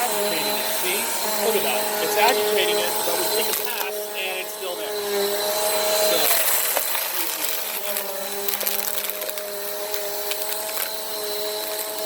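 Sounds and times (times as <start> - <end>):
vacuum cleaner motor humming: 0.0 - 12.0
sand and grit rattling: 0.1 - 12.0.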